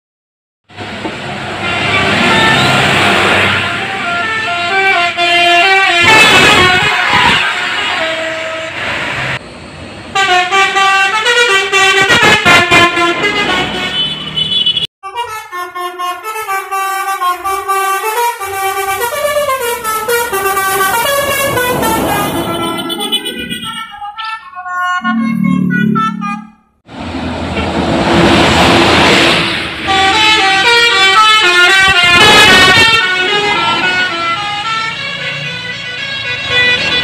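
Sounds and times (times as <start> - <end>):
traffic noise: 0.7 - 37.0
multi-tone bus horn melodies: 1.6 - 9.4, 10.1 - 26.8, 29.8 - 37.0.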